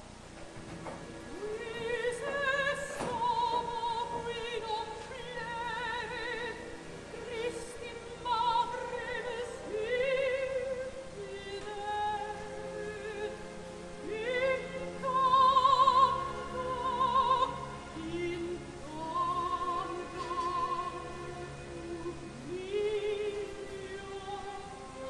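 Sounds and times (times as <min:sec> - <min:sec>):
operatic singing with vibrato: 0:00.0 - 0:25.0.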